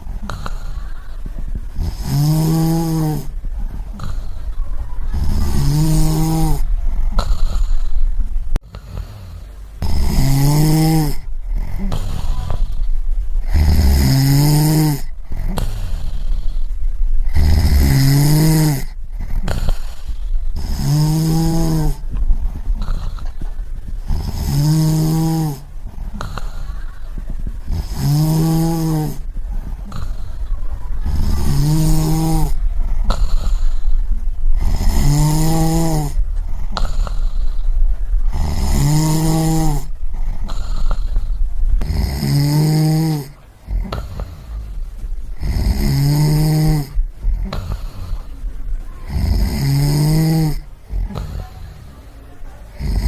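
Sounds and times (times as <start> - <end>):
person snoring: 0.0 - 44.8, 45.4 - 52.0, 52.7 - 53.0
low rumble: 0.0 - 52.8.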